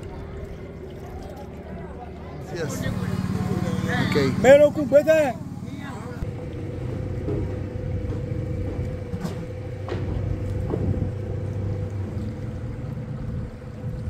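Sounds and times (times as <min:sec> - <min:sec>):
boat motor droning: 0:00.0 - 0:14.0.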